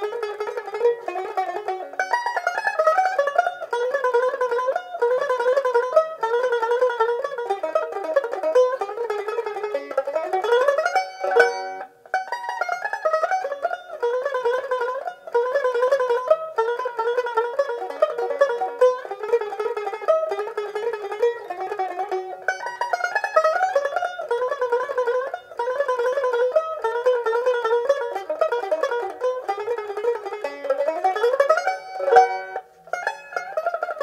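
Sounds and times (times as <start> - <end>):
banjo-mandolin melody: 0.0 - 34.0.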